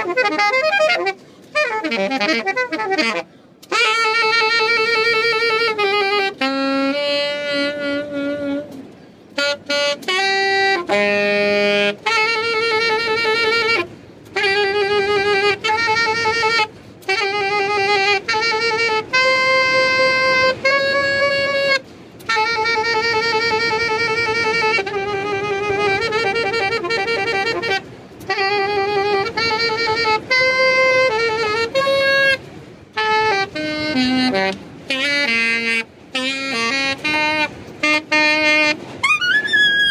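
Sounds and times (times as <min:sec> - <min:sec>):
saxophone with wide vibrato: 0:00.0 - 0:39.9.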